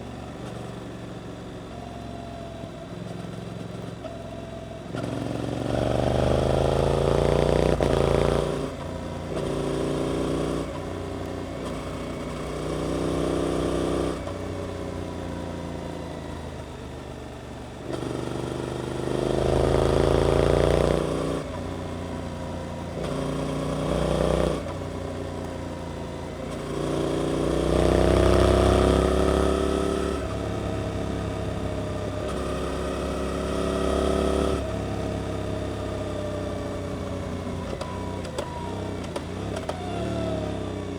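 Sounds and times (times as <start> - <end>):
motorcycle engine revving: 4.9 - 40.9.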